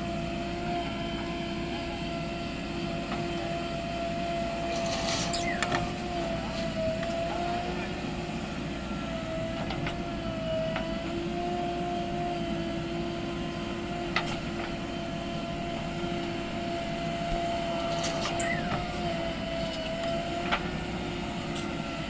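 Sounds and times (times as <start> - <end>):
diesel engine running with whine: 0.0 - 22.0.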